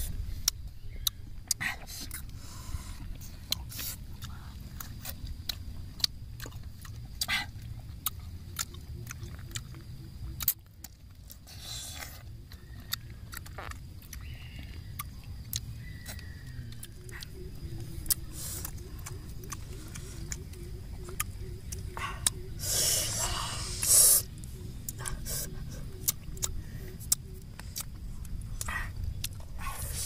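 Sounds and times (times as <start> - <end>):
biting and chewing fruit: 0.0 - 30.0
low steady rumble: 0.0 - 30.0.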